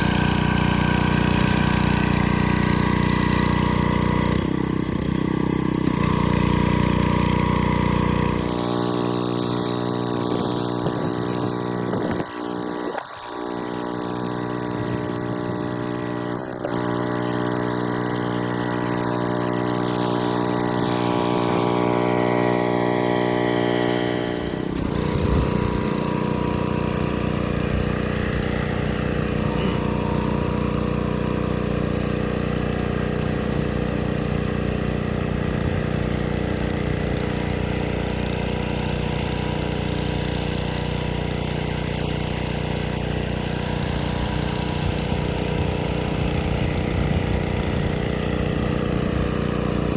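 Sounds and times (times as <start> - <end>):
pressure washer engine running: 0.0 - 49.9
water spray hiss: 0.0 - 49.9.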